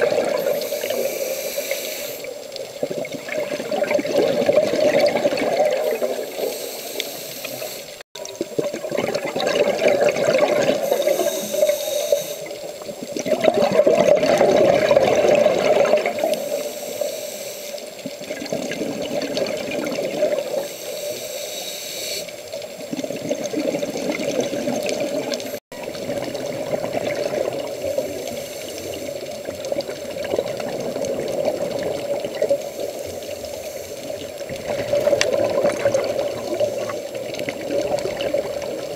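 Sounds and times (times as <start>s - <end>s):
underwater regulator bubbles: 0.0s - 38.9s.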